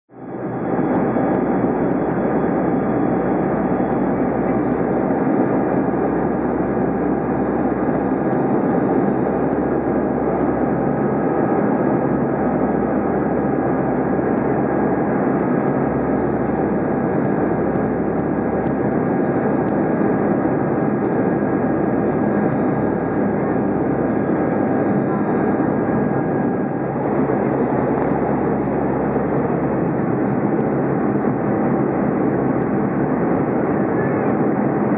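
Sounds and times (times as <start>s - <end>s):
turboprop cabin drone: 0.1s - 34.9s.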